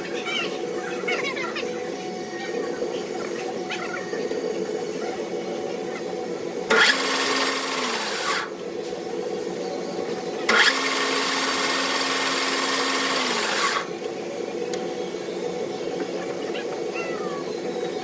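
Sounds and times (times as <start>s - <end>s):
metalworking machine humming: 0.0s - 18.0s
harsh hissing machining noise: 1.7s - 18.0s.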